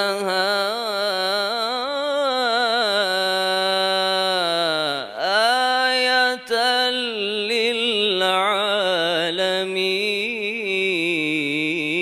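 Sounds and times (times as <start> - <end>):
man chanting through microphone: 0.0 - 12.0.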